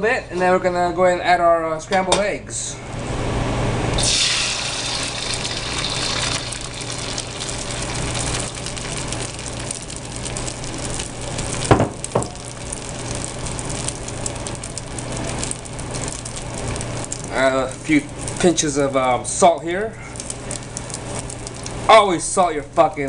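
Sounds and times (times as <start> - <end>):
eggs sizzling in hot oil: 4.0 - 23.0.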